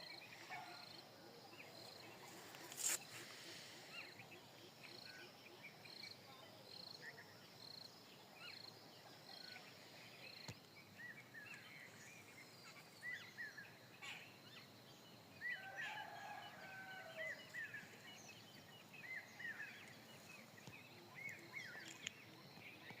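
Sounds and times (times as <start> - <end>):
birds chirping faintly: 0.0 - 23.0
outdoor background hush: 0.0 - 23.0.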